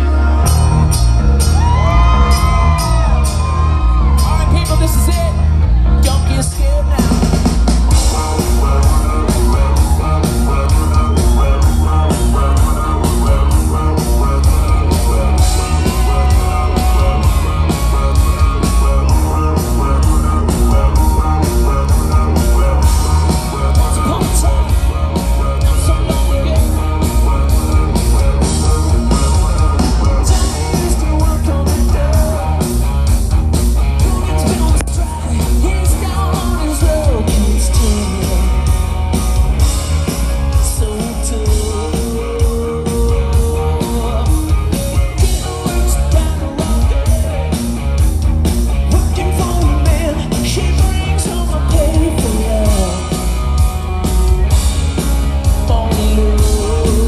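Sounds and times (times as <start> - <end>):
live rock band: 0.0 - 57.0
person singing lead vocals: 6.0 - 33.1, 33.9 - 39.0, 39.6 - 47.8, 48.8 - 57.0.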